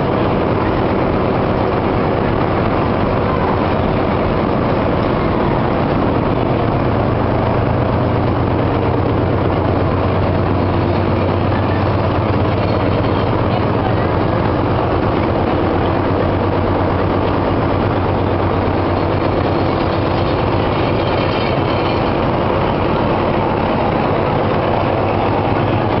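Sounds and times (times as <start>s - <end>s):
low hum: 0.0s - 26.0s
machinery mechanical din: 0.0s - 26.0s.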